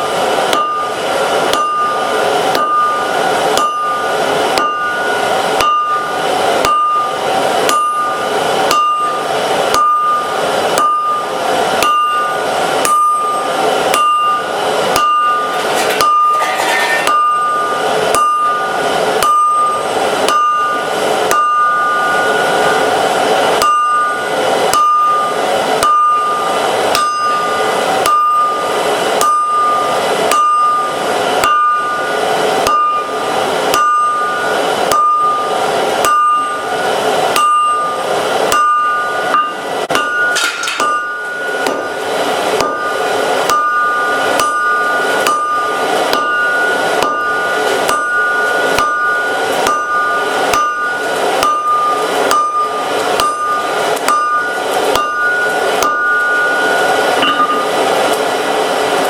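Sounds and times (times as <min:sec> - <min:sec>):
hammer striking steel on anvil: 0:00.0 - 0:58.4.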